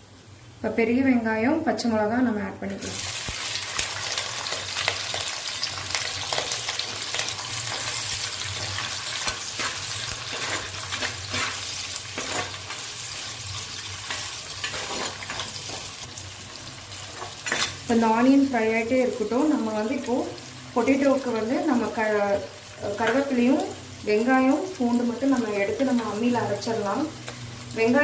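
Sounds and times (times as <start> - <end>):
onions sizzling in hot oil: 2.8 - 28.0.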